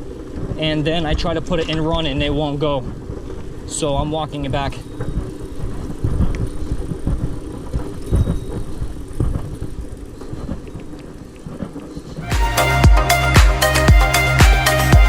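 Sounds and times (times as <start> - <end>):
go-kart rolling with rattles: 0.0 - 12.3.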